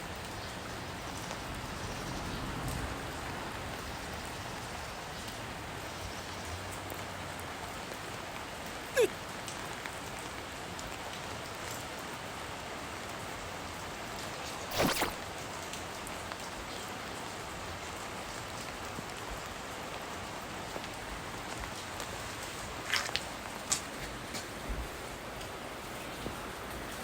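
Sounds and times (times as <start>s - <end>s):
rain falling: 0.0s - 14.4s, 15.8s - 23.7s.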